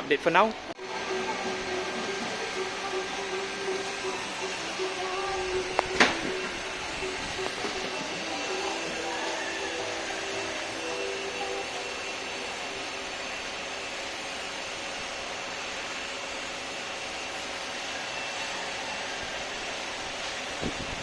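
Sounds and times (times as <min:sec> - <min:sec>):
thin high whine: 0:00.0 - 0:21.0
rushing machine noise: 0:00.6 - 0:21.0.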